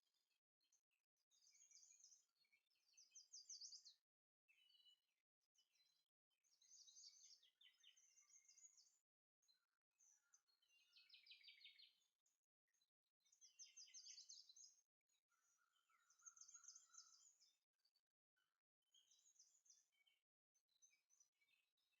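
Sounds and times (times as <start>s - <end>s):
high chirping birdsong trills: 0.6s - 12.2s, 13.2s - 18.0s, 18.9s - 22.0s.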